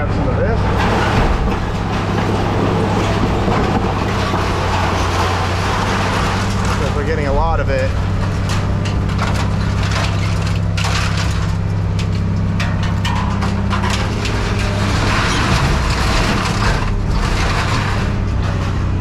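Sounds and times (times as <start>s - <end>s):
heavy machine engine drone: 0.0s - 19.0s
scrap metal clanking and crunching: 0.0s - 19.0s.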